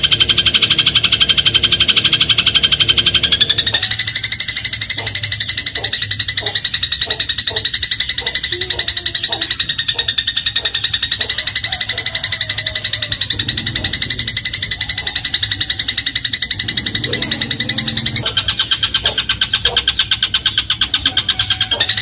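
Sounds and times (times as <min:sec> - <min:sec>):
sparrow chattering call: 0:00.0 - 0:22.0.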